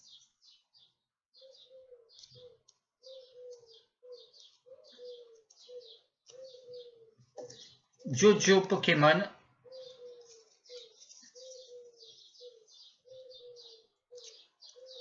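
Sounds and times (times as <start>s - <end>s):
high bird chirping: 0.0s - 15.0s
faint bird calls: 1.4s - 8.2s, 9.5s - 15.0s.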